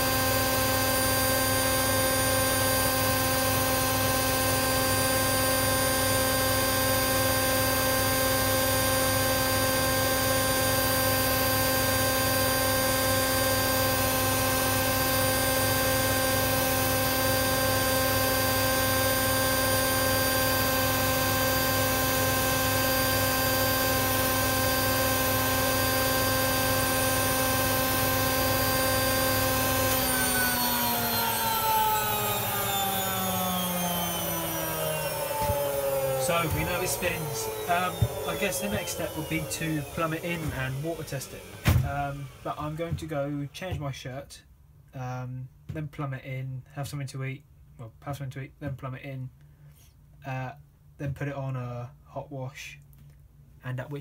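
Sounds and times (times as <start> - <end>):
washing machine spin whine: 0.0 - 43.8.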